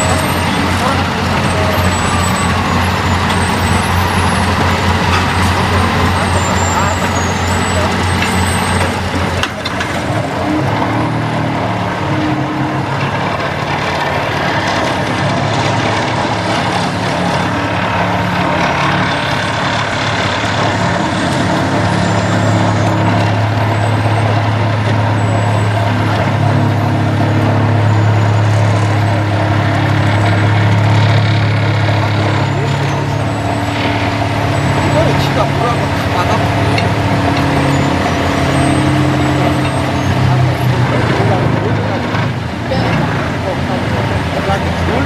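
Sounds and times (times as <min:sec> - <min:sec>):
excavator diesel engine: 0:00.0 - 0:45.0.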